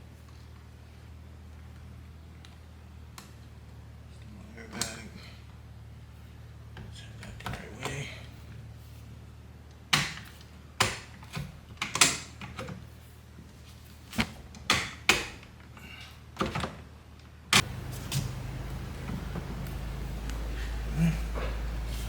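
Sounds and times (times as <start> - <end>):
steady low hum: 0.0 - 14.6, 15.3 - 22.0.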